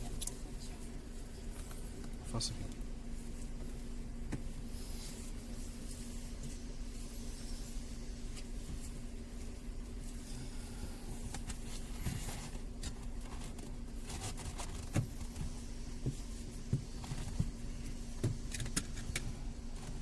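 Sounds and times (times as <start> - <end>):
car cabin hum and rumble: 0.0 - 20.0.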